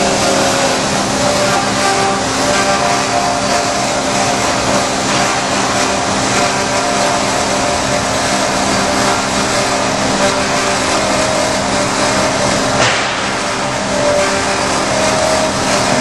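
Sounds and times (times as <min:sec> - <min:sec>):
band saw cutting metal: 0:00.0 - 0:16.0.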